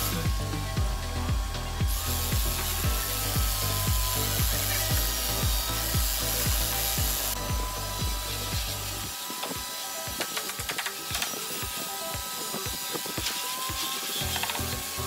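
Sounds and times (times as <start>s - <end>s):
background music with low beat: 0.0s - 15.0s.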